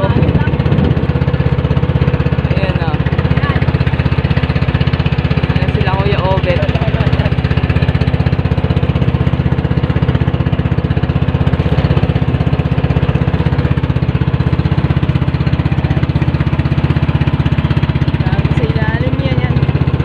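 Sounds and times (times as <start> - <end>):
boat engine chugging: 0.0 - 20.0.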